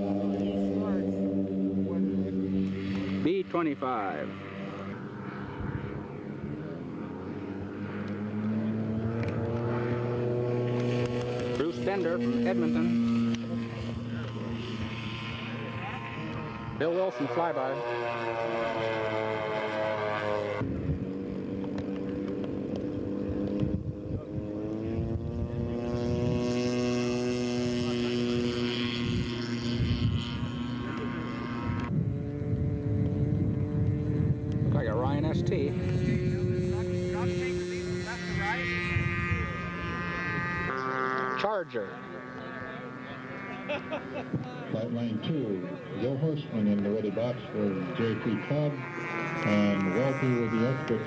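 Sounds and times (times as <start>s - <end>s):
model plane propeller drone: 0.0s - 51.0s.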